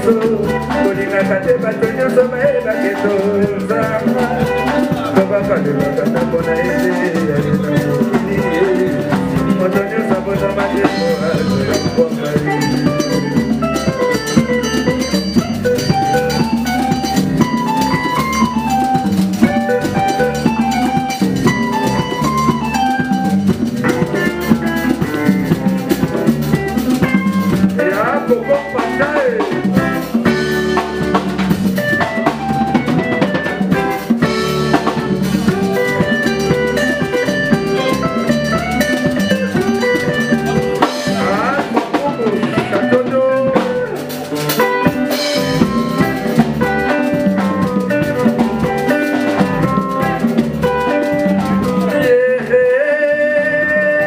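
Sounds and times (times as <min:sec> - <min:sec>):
conga drums: 0:00.0 - 0:54.0
live band playing: 0:00.0 - 0:54.0.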